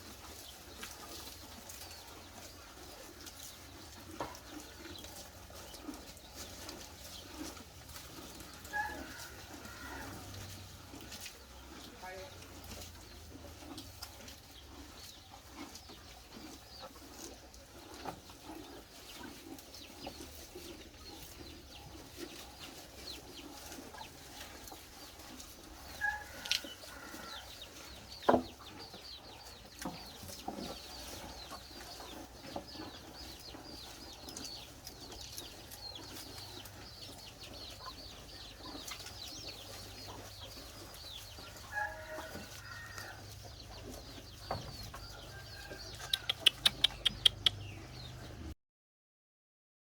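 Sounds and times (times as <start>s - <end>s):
chickens clucking: 0.0s - 48.6s.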